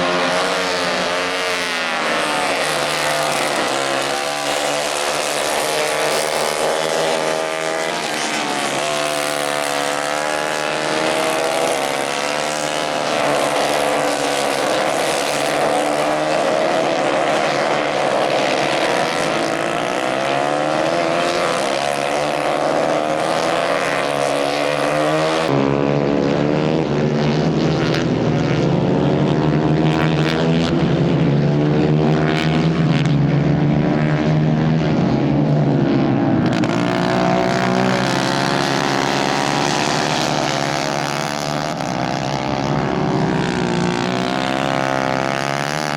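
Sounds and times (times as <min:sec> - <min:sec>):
kart engines revving: 0:00.0 - 0:45.9.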